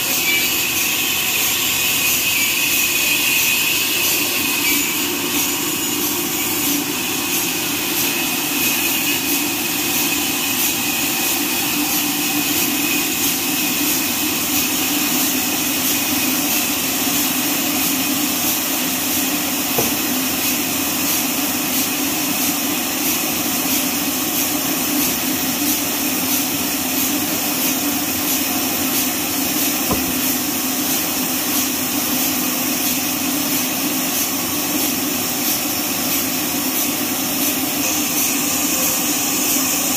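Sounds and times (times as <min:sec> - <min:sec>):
band sawmill drone with hiss: 0:00.0 - 0:39.9.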